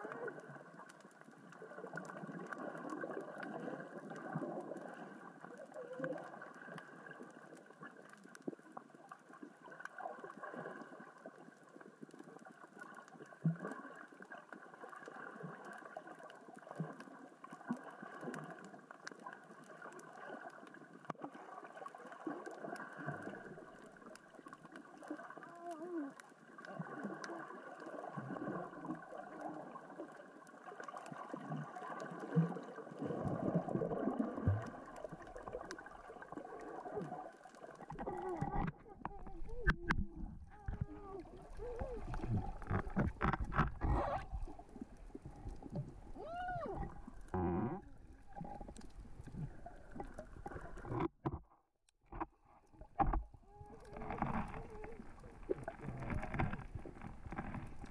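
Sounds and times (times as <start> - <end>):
low water surges: 0.0 - 51.1, 52.7 - 57.9
rocks rolling underwater clicking: 0.0 - 57.9.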